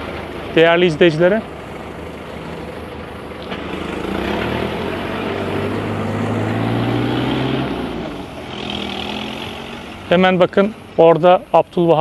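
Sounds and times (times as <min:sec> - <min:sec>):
engine running: 0:00.0 - 0:11.8.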